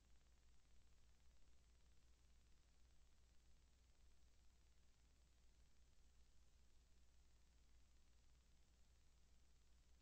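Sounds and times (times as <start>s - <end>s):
faint low hum and hiss: 0.0s - 10.0s.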